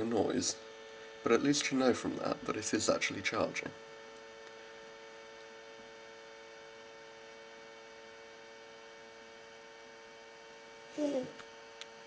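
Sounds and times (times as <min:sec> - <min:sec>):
battery charger humming: 0:00.0 - 0:12.0.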